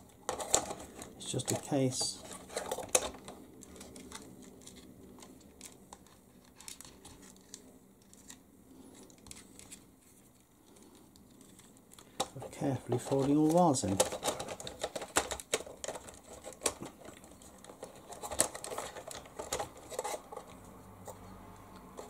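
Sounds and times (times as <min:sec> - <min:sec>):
wires and plastic parts rustling: 0:00.0 - 0:22.0.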